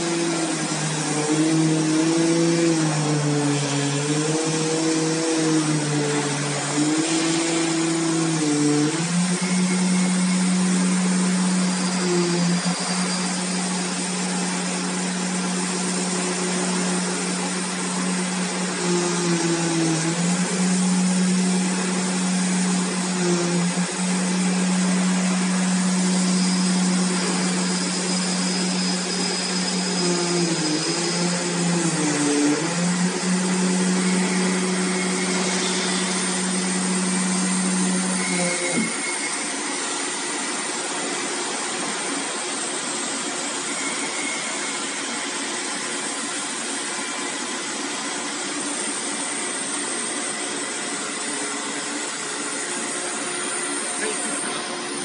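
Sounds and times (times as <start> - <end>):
cutting machine humming: 0.0 - 55.0
vacuum blower rushing: 0.0 - 55.0.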